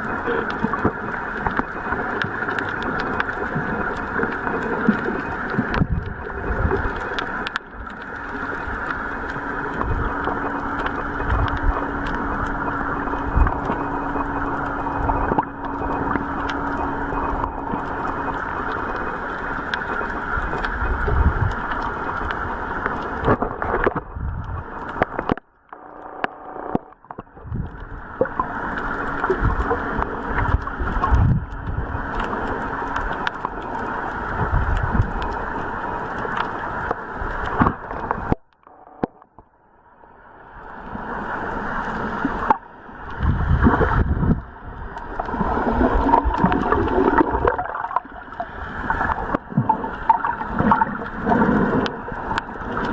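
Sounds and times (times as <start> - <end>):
muffled water sloshing: 0.0 - 25.4, 26.9 - 38.5, 40.5 - 52.9.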